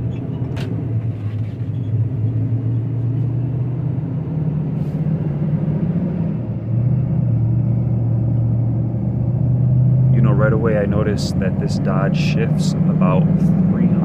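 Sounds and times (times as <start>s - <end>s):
road noise: 0.0s - 14.0s
truck engine hum: 0.0s - 14.0s.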